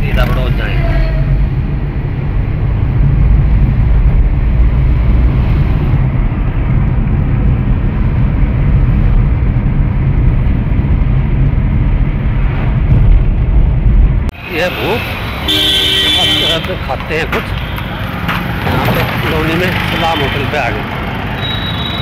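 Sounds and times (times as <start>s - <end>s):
car driving rumble: 0.0s - 21.4s.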